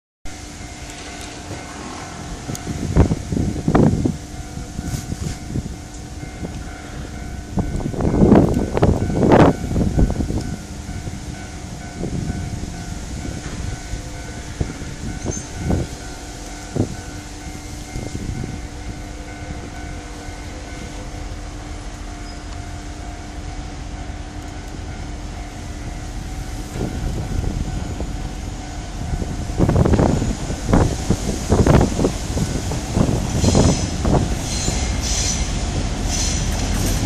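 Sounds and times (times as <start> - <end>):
locomotive engine rumble: 0.3 - 37.0
wind buffeting microphone: 1.3 - 21.6, 23.9 - 37.0.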